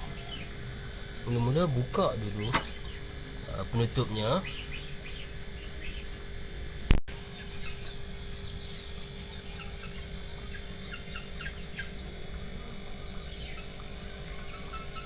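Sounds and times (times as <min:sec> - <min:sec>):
chickens clucking: 0:00.0 - 0:06.3, 0:07.2 - 0:15.0.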